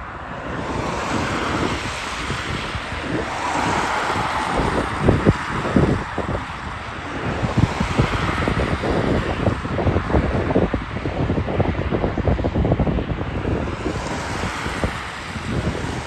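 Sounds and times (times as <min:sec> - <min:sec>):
jet engines rushing: 0:00.0 - 0:16.0
wind buffeting microphone: 0:00.0 - 0:16.0.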